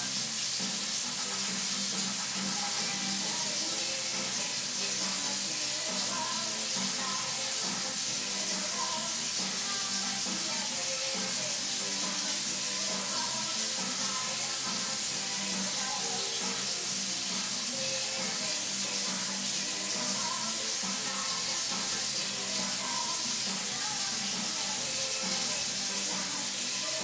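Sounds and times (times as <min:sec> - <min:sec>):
music from hi-fi system: 0:00.0 - 0:27.0
steady hiss: 0:00.0 - 0:27.0.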